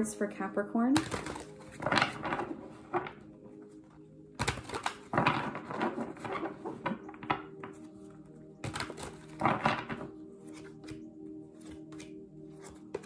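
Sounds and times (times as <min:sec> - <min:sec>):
soft steady music: 0:00.0 - 0:13.0
cards being shuffled: 0:01.0 - 0:03.2, 0:04.4 - 0:13.0.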